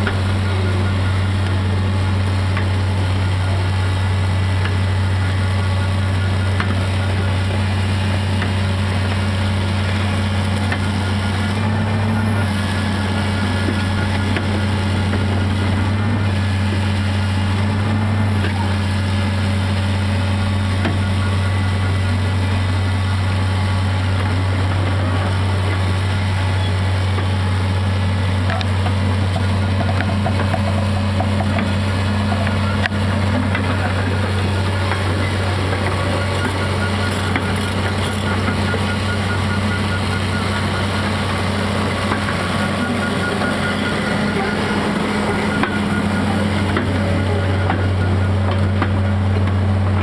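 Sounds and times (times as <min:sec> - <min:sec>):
diesel engine idling: 0:00.0 - 0:50.0.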